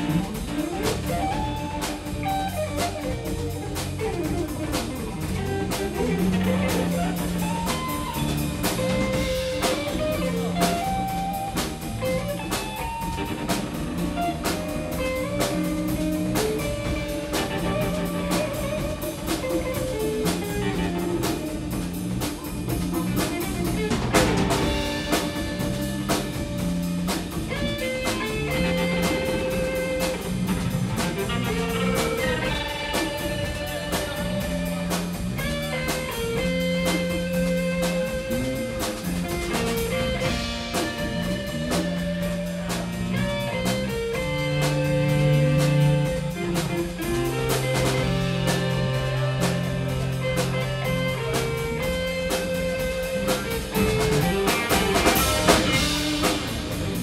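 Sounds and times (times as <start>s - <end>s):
drum-kit beat: 0.0s - 57.0s
electric bass: 0.0s - 57.0s
electric guitars: 0.0s - 57.0s.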